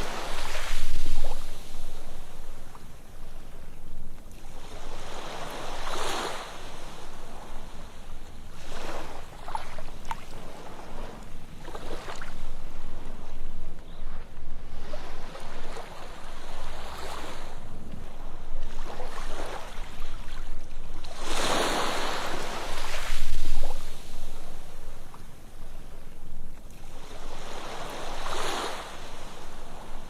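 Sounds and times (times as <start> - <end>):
ocean surf on beach: 0.0 - 30.0.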